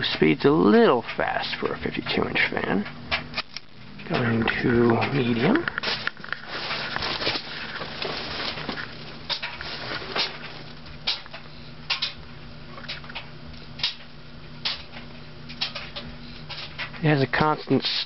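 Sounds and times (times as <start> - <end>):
ceiling fan motor humming: 0.0 - 18.0.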